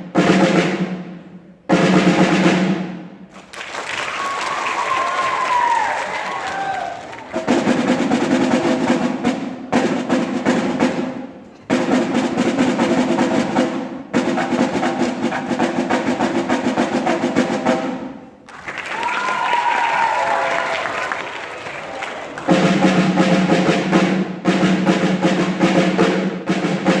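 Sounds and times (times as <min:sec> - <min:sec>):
drum rolls: 0:00.0 - 0:27.0.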